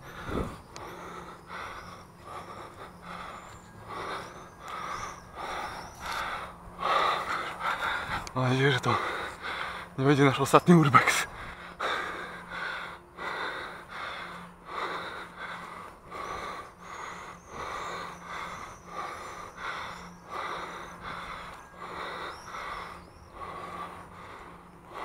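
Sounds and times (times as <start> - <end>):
person breathing hard: 0.0 - 25.0.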